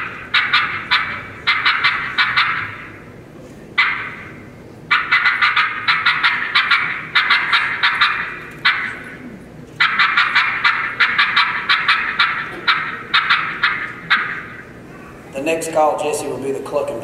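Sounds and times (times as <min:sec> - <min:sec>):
turkey call clucks: 0:00.0 - 0:03.1, 0:03.8 - 0:15.2.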